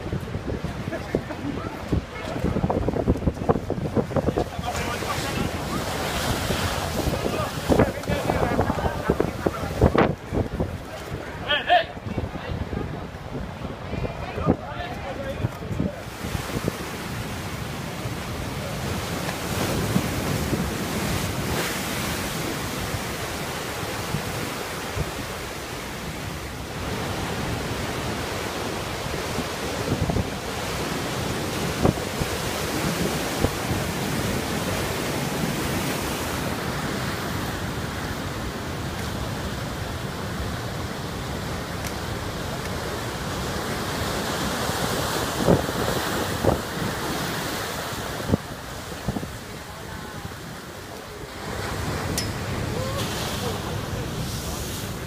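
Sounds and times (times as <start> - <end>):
wind buffeting microphone: 0.0 - 50.8.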